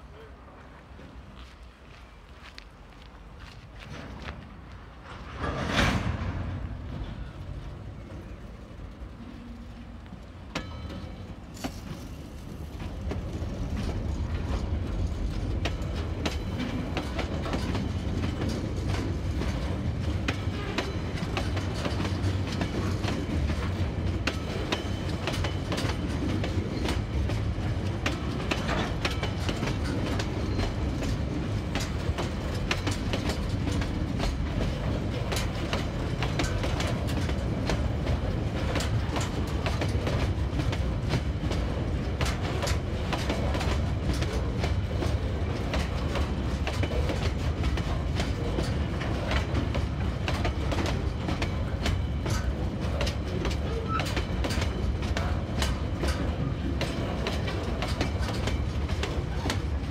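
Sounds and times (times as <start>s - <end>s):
freight train rolling past: 0.0s - 59.9s
wheels clacking on rails: 0.0s - 59.9s.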